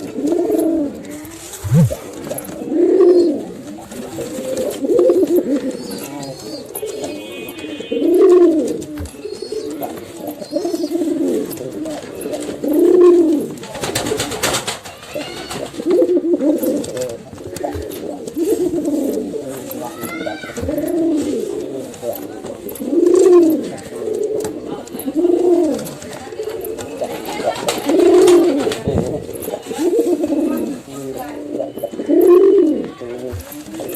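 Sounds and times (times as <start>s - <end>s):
pigeons cooing: 0.0s - 33.9s.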